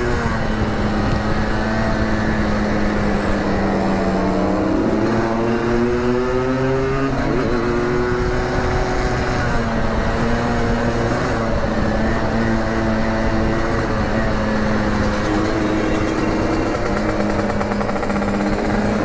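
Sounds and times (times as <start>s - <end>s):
two-stroke motorcycle engines: 0.0s - 19.0s
wind and road noise: 0.0s - 19.0s.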